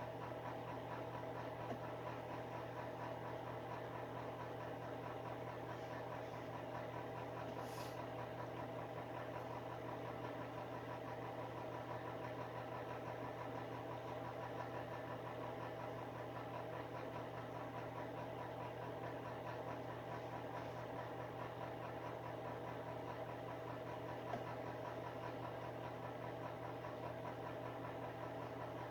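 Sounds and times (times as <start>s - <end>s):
space heater fan humming: 0.0s - 28.9s.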